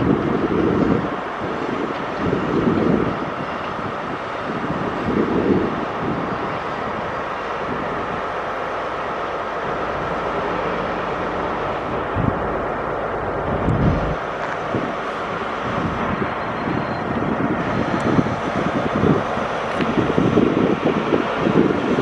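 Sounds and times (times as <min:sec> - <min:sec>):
diesel train droning on rails: 0:00.0 - 0:22.0
low rumbling surges: 0:00.0 - 0:22.0.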